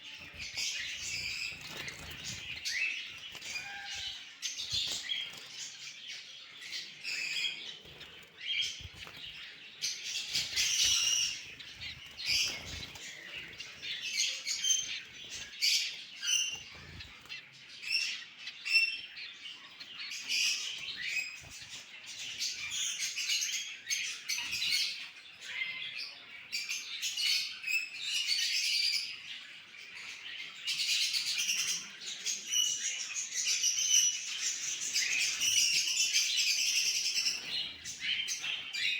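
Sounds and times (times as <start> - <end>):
cockatiels chirping and squawking: 0.0 - 38.9.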